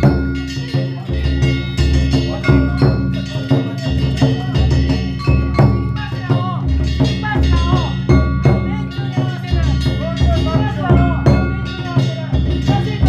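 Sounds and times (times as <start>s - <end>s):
big taiko drum beating: 0.0s - 13.0s
metal hand gongs ringing: 0.0s - 13.0s.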